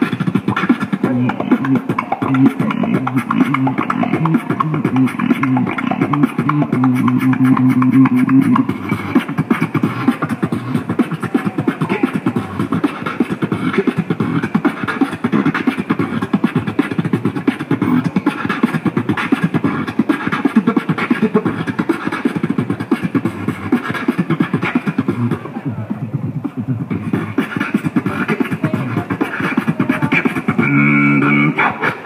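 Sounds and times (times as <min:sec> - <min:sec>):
beatboxing into microphone: 0:00.0 - 0:32.0.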